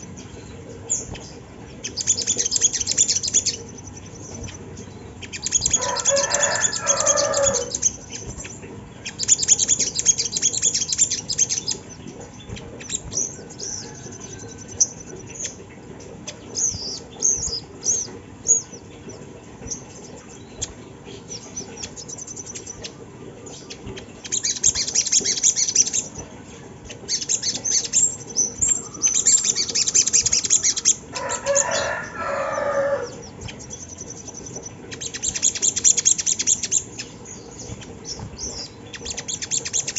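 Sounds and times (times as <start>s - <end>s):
bird trilling chirps: 0.0s - 26.3s, 26.9s - 39.9s.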